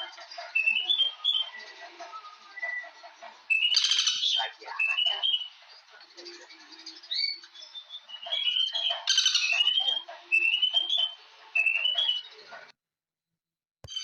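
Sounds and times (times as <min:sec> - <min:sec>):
bird chirping: 0:00.0 - 0:12.7.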